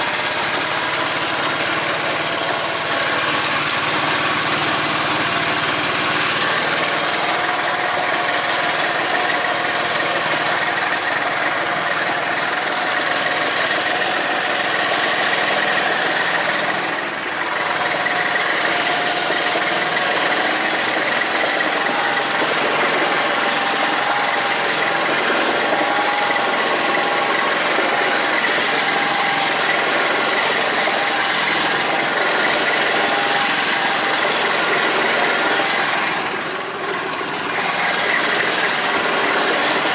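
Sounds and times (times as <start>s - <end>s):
swamp buggy engine running: 0.0s - 39.9s.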